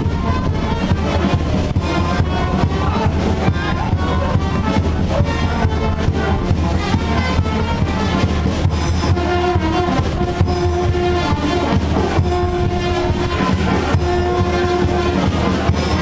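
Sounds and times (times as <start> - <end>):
music with steady beat: 0.0 - 16.0.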